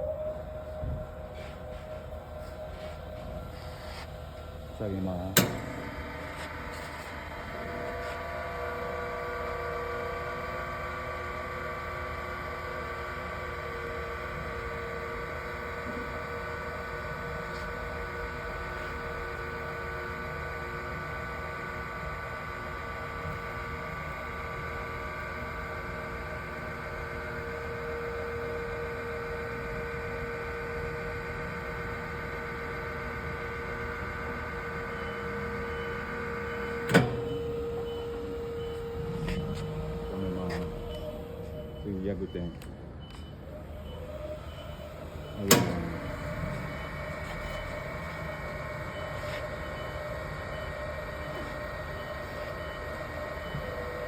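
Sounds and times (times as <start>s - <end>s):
electric motor and gearbox humming: 0.0s - 54.0s.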